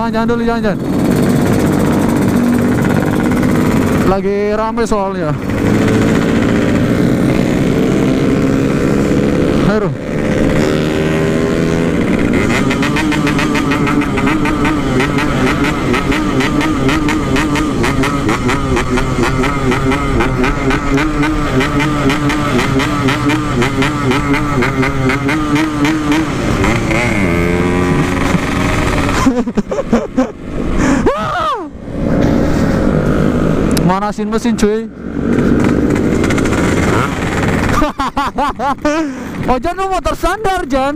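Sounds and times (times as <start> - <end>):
motorcycle engine revving: 0.0 - 30.9, 31.7 - 40.9.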